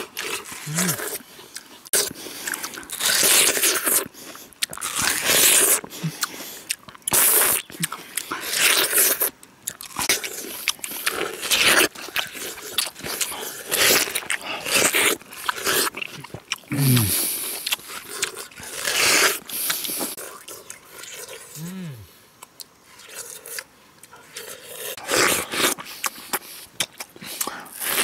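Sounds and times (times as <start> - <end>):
people chewing watermelon: 0.0 - 28.0.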